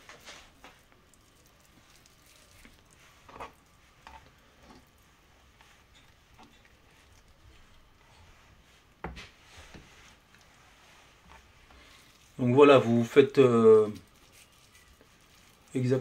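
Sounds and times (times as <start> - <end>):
soft handling of food: 0.0 - 16.0.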